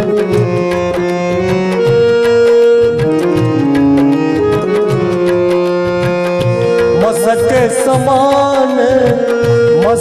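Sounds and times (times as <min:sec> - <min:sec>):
harmonium chords: 0:00.0 - 0:10.0
tabla beat: 0:00.0 - 0:10.0.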